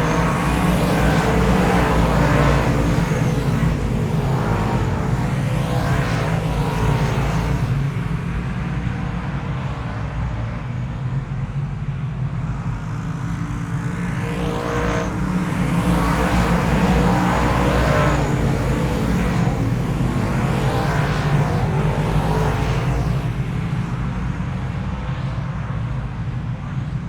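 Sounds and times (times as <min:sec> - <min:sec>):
vehicle engine low rumble: 0:00.0 - 0:27.0.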